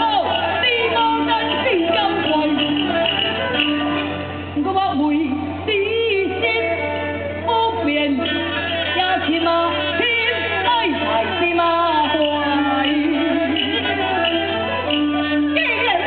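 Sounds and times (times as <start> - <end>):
woman singing opera aria: 0.0 - 3.5, 4.6 - 16.0
instrumental accompaniment: 0.0 - 16.0.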